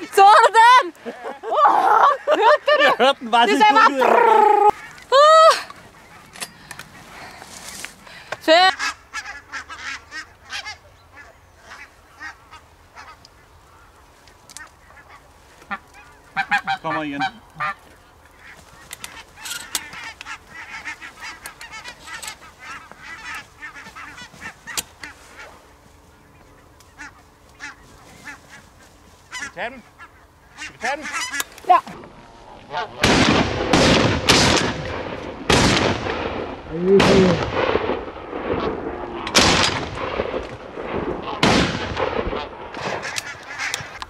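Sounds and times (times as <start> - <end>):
geese honking: 0.0 - 33.2, 41.2 - 41.6, 42.2 - 44.0.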